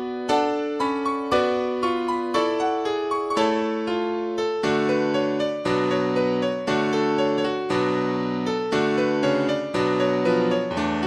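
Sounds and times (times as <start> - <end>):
solo piano music: 0.0 - 11.0.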